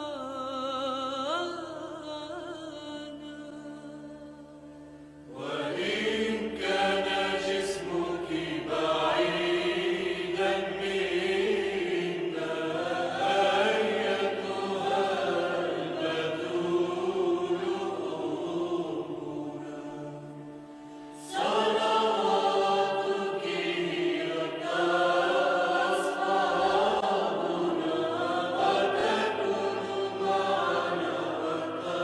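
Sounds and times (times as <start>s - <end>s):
choir singing a hymn: 5.3s - 32.0s.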